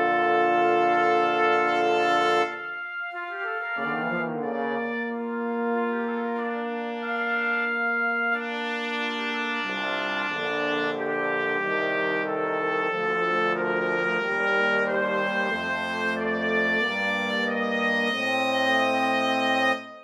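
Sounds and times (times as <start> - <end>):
deep bass trombone notes: 0.0 - 18.3
sampled brass chords: 0.0 - 20.0.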